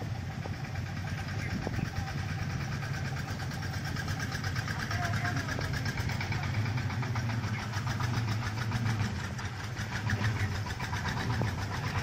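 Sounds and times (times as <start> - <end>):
engine idling with knocking beat: 0.0 - 12.0.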